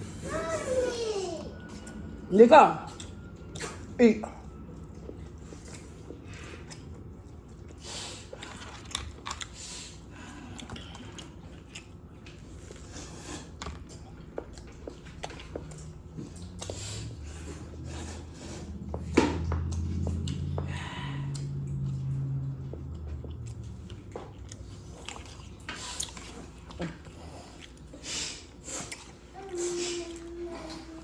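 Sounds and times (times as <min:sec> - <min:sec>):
chewing and biting: 0:04.5 - 0:30.7.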